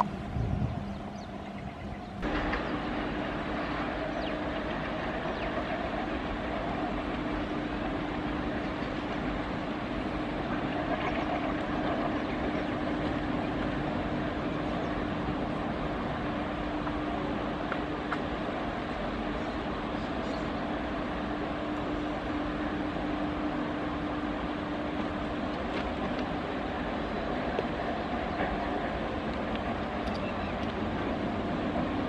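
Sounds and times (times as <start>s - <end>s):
locomotive hum: 0.0s - 32.0s
trains rumbling: 0.0s - 32.0s.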